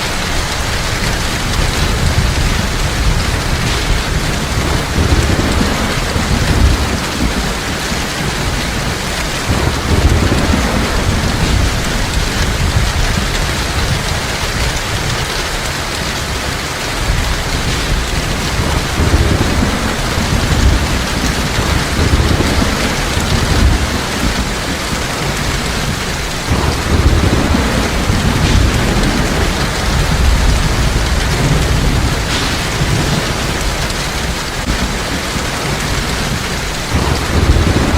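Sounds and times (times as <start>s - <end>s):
heavy rain falling: 0.0s - 37.9s
thunder rumbling: 0.0s - 37.9s.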